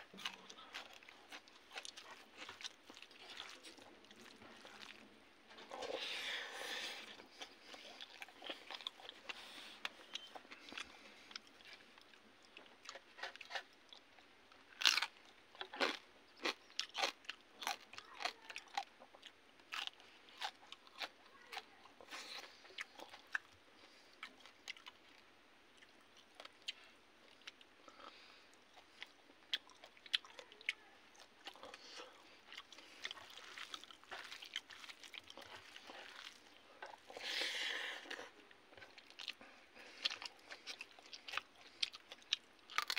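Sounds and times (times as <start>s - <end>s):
person chewing and crunching: 0.0s - 42.9s.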